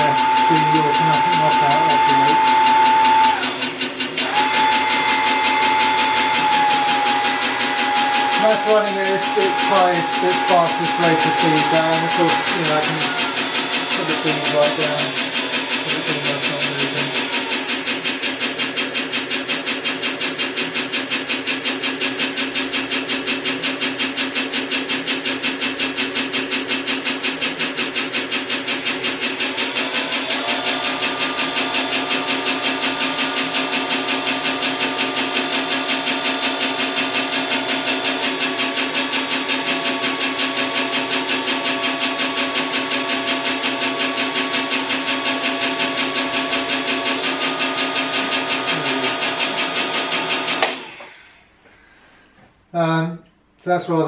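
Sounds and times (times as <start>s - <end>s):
milling machine humming: 0.0s - 52.4s
high steady machine tone: 0.0s - 53.3s.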